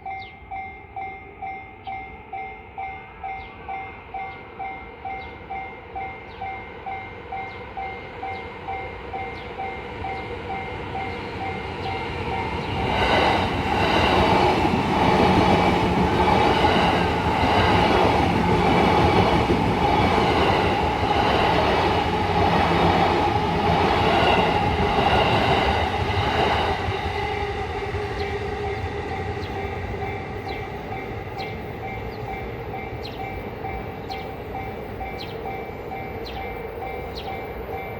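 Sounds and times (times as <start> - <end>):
train rumble and wheel clatter: 0.0 - 37.9.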